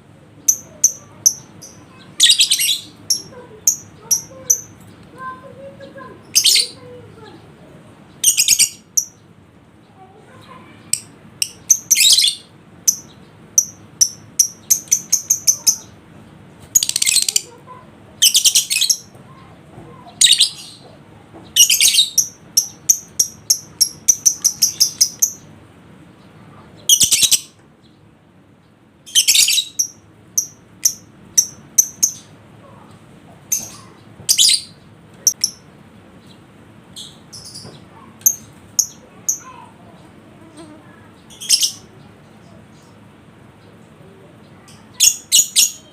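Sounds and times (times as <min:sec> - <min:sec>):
lovebird chirping and trilling: 0:00.4 - 0:07.0, 0:08.1 - 0:09.3, 0:10.3 - 0:16.0, 0:16.6 - 0:19.2, 0:20.0 - 0:25.6, 0:26.2 - 0:28.0, 0:29.0 - 0:32.8, 0:33.4 - 0:43.0, 0:44.5 - 0:45.9.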